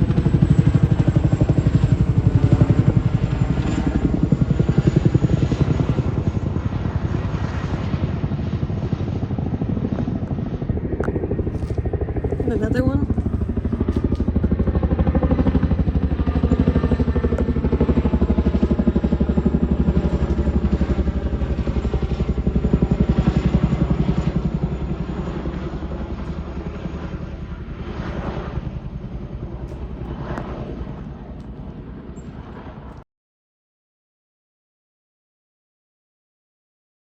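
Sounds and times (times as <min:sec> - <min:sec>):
helicopter rotor chopping: 0:00.0 - 0:33.0.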